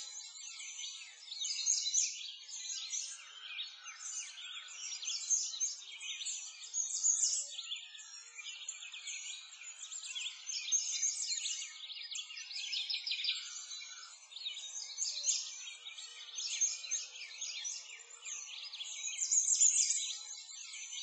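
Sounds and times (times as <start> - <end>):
songbirds chirping and singing: 0.0 - 21.0.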